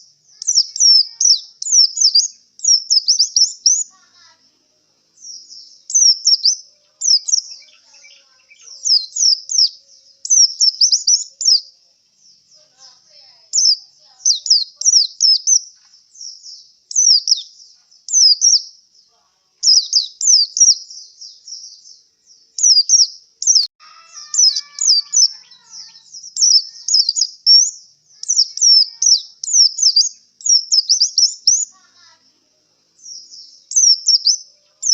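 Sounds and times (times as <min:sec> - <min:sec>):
bird singing high chirps: 0:00.0 - 0:34.9.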